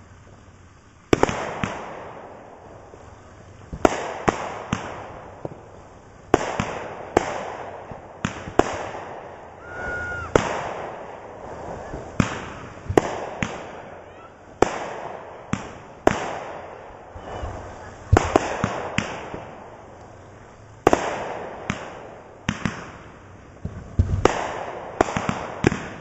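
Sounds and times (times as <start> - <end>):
fireworks bursts: 0.0 - 26.0
fireworks crackling hiss: 0.0 - 26.0.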